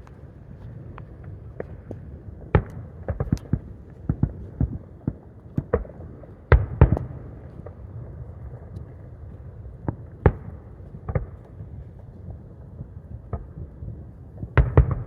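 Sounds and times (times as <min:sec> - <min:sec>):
fireworks bangs and cracks: 0:00.0 - 0:11.6, 0:14.4 - 0:15.0.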